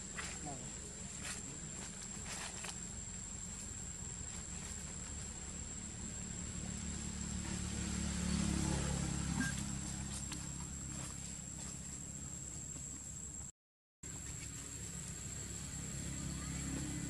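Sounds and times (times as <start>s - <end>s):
distant vehicle engine hum: 0.0s - 13.5s, 14.1s - 17.0s.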